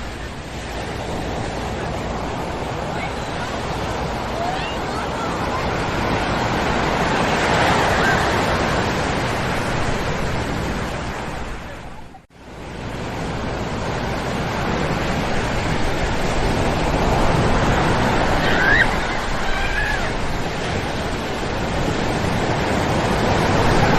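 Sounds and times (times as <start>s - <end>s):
ocean surf breaking on beach: 0.0s - 23.9s.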